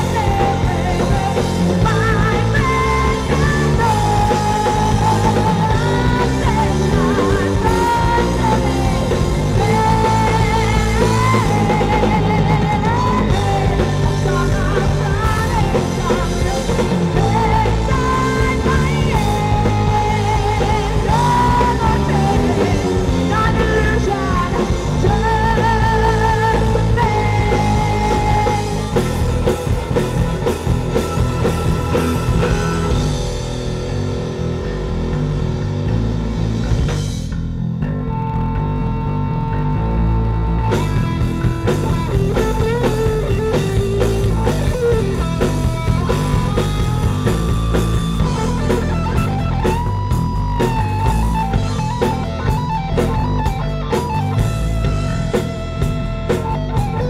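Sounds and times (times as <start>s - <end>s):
bass guitar: 0.0s - 57.0s
electric guitar: 0.0s - 57.0s.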